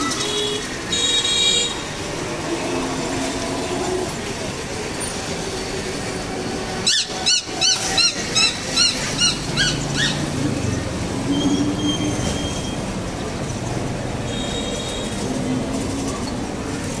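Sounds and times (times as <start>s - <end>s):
street background noise: 0.0s - 17.0s.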